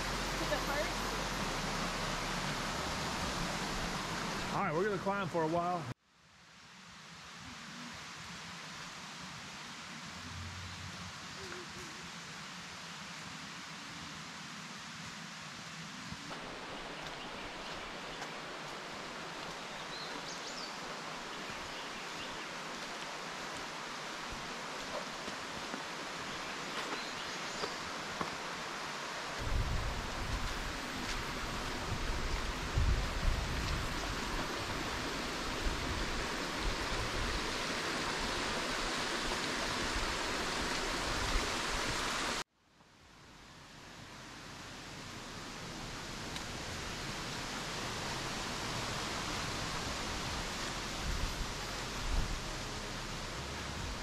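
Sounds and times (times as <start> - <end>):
rushing outdoor ambience: 0.0 - 42.4, 43.2 - 54.0.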